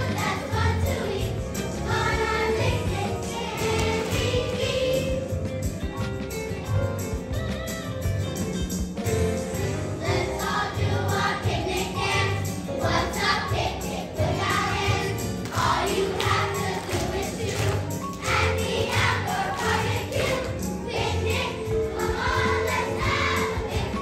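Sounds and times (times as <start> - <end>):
children's choir singing: 0.0 - 5.4, 9.6 - 24.0
music with steady beat: 0.0 - 24.0.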